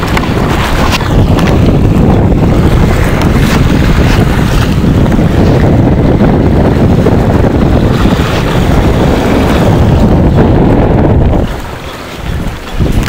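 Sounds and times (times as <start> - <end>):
water rushing: 0.0 - 13.0
wind buffeting microphone: 0.0 - 13.0.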